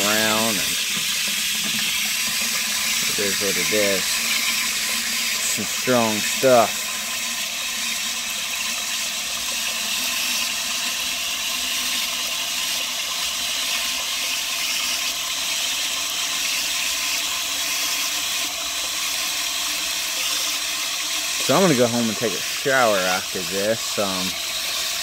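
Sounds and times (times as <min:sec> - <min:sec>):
hose water filling plastic tank: 0:00.0 - 0:25.0.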